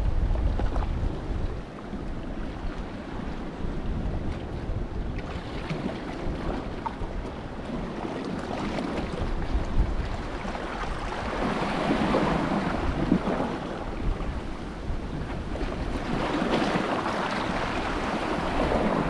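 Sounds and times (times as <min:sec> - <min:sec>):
waves washing: 0:00.0 - 0:19.0
wind buffeting microphone: 0:00.0 - 0:19.0.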